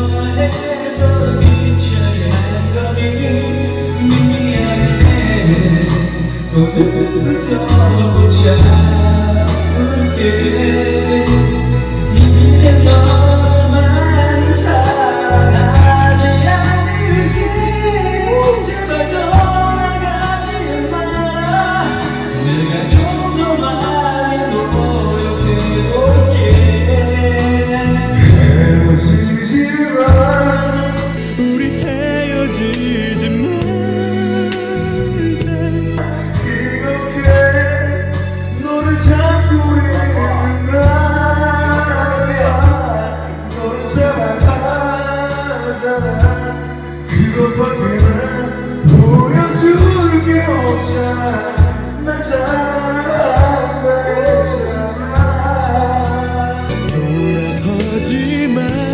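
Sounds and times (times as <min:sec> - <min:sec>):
karaoke backing track: 0:00.0 - 0:58.9
person singing pop ballad: 0:00.0 - 0:58.9.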